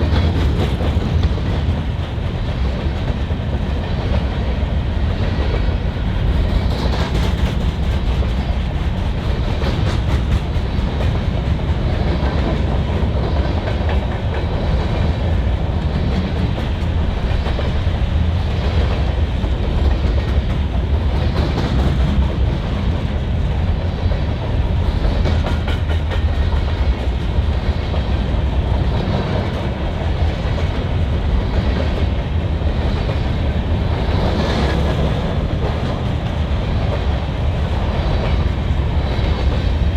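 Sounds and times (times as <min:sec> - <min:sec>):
train wheel clicks: 0:00.0 - 0:04.3, 0:05.1 - 0:23.2, 0:23.8 - 0:39.9
freight train rumbling past: 0:00.0 - 0:39.9.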